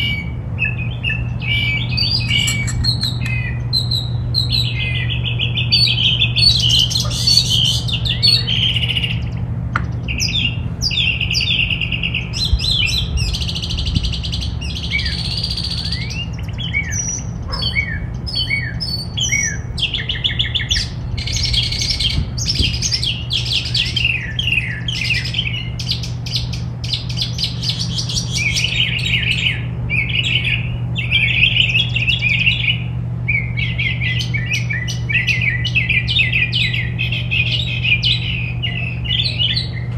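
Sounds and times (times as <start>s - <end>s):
songbirds chirping and trilling: 0.0s - 39.9s
steady low hum: 0.0s - 39.9s.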